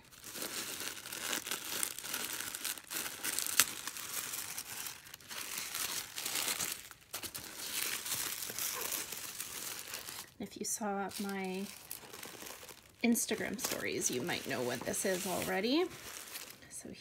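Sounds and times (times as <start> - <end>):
tissue paper rustling and crinkling: 0.0 - 17.0.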